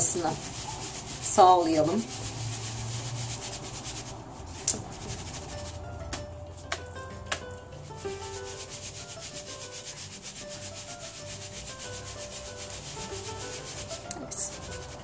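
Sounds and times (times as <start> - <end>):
food rustling in plastic colander: 0.0 - 5.9, 8.1 - 15.0.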